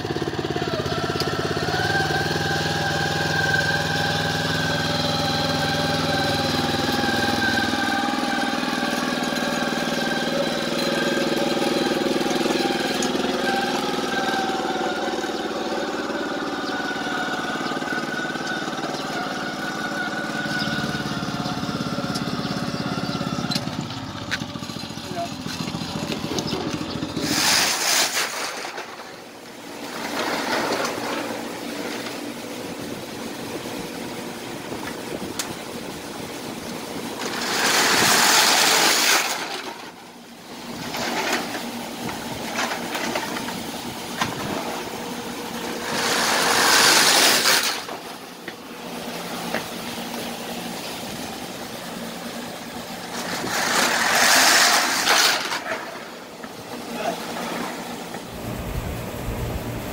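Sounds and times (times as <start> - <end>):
baskets rattling on roller conveyor: 0.0 - 59.9.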